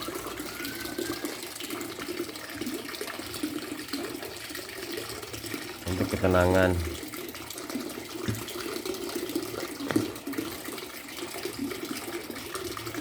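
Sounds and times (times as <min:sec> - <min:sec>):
water trickling and gurgling: 0:00.0 - 0:13.0.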